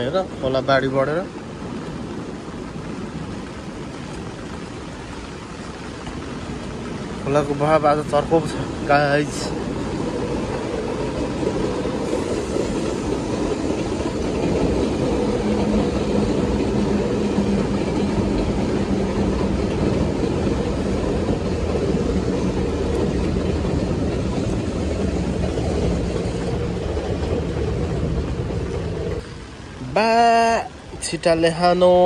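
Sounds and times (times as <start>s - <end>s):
heavy rain hissing: 0.0s - 32.0s
train rumbling past: 0.0s - 32.0s.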